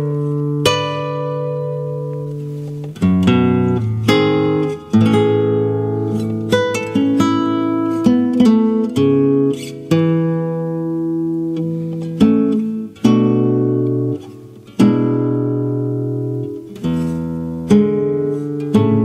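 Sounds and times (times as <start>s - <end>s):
classical guitar chords: 0.0s - 19.0s.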